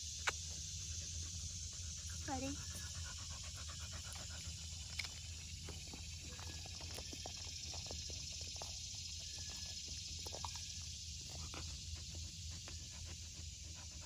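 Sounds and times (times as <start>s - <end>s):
dog panting: 0.4s - 14.0s.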